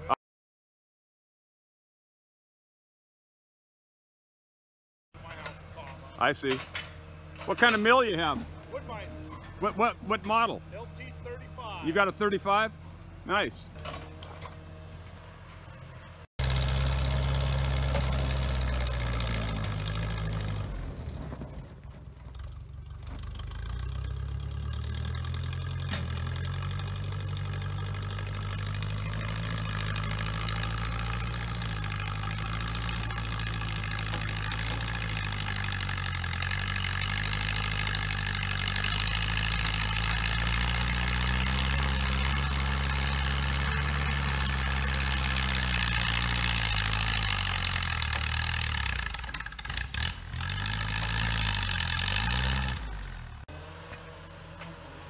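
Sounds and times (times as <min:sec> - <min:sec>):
log skidder engine running: 0:05.2 - 0:55.0.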